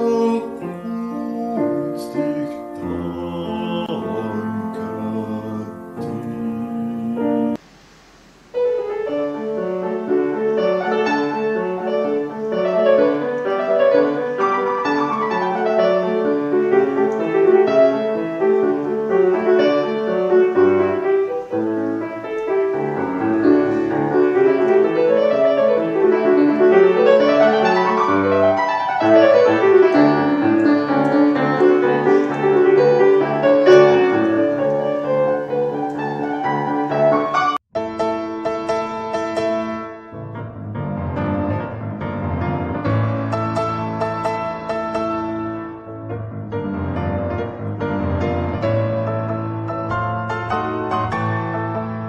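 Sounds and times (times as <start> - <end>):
solo grand piano piece: 0.0 - 52.0.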